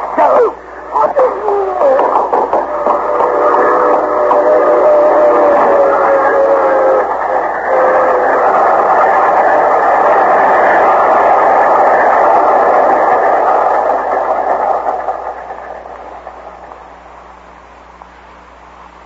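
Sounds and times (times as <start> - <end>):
train running: 0.0 - 19.0.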